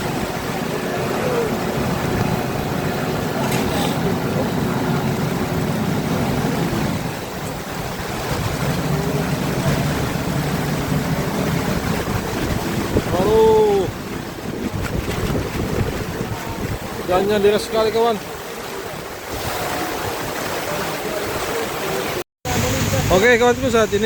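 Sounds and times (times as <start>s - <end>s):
wind buffeting microphone: 0.0s - 21.6s
heavy rain pouring: 0.0s - 24.0s.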